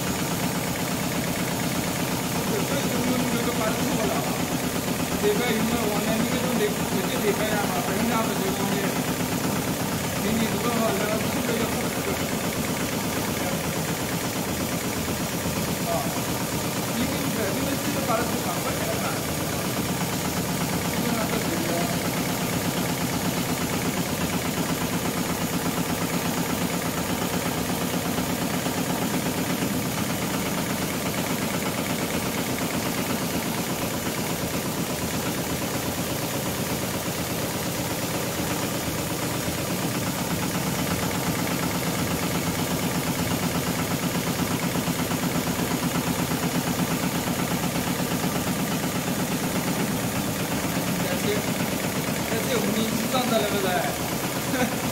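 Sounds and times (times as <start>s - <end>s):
sewing machine hum: 0.0s - 54.9s.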